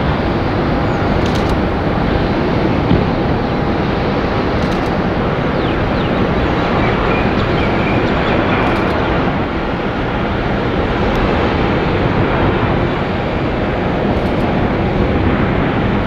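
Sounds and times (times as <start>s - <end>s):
jet airliner engine noise: 0.0s - 16.0s.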